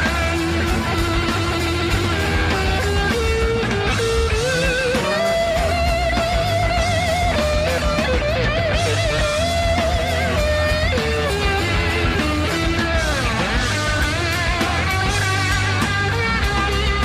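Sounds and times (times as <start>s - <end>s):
bass and drums: 0.0s - 17.0s
electric guitar lead with vibrato: 0.0s - 17.0s.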